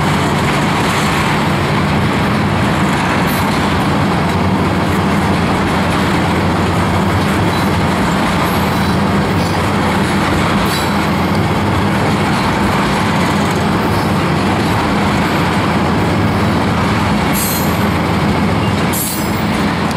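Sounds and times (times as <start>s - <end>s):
steel wheels rumbling on rail: 0.0s - 19.9s.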